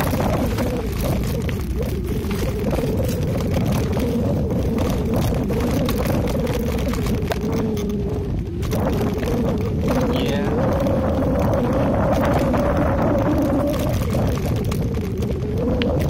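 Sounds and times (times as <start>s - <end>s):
tyres rumbling on dirt: 0.0s - 16.0s
wavering hum: 0.0s - 16.0s
wind on microphone: 0.0s - 16.0s.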